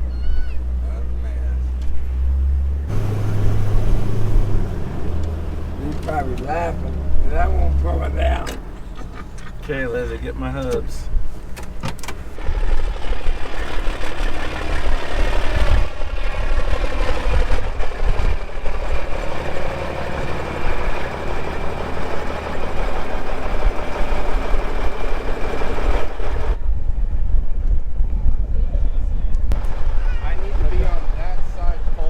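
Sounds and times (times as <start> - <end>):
vehicle engine rumbling: 0.0 - 27.2, 28.8 - 32.0.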